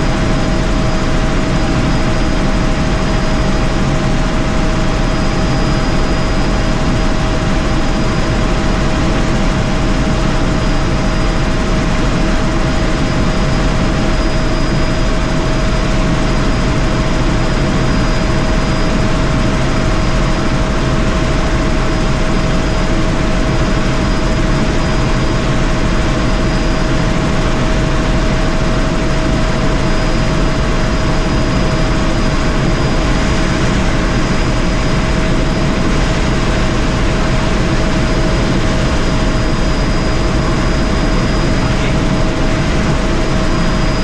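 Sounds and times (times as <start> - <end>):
constant whine: 0.0 - 44.0
helicopter rotor and engine noise: 0.0 - 44.0.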